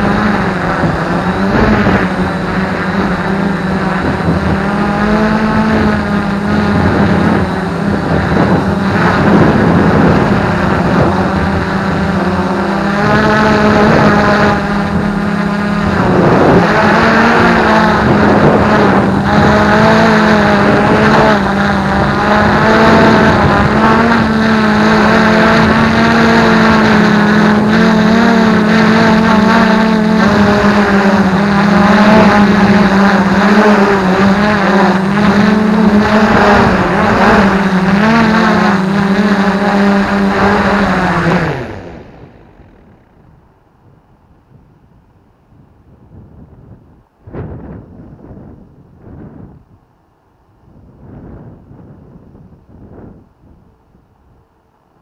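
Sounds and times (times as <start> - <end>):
drone propellers whining: 0.0 - 49.8
wind buffeting microphone: 0.0 - 54.6.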